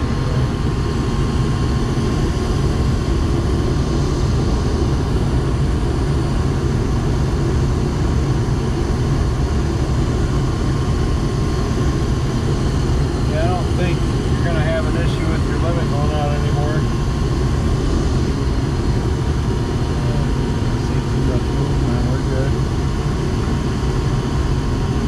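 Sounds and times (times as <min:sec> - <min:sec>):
furnace low rumble: 0:00.0 - 0:25.0.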